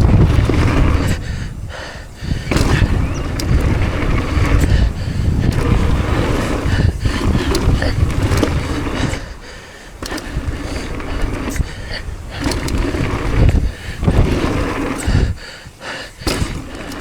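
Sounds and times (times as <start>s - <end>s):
bike chain and frame clattering: 0.0s - 17.0s
bike tyres scraping on dirt: 0.0s - 17.0s
wind buffeting microphone: 0.0s - 17.0s.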